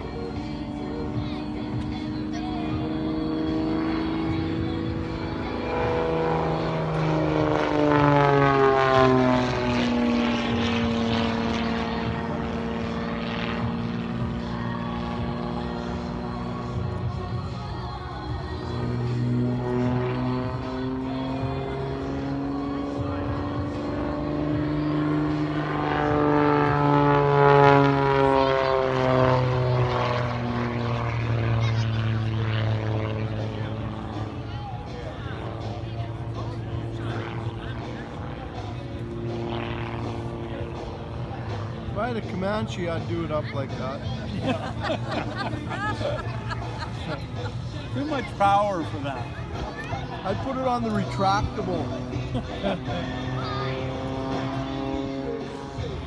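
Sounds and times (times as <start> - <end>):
propeller airplane flying past: 0.0 - 56.0.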